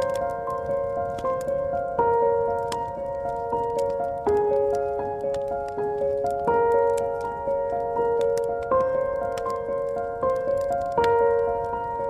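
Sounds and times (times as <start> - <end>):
soft piano music: 0.0 - 12.0
wood fire crackling and popping: 0.0 - 12.0.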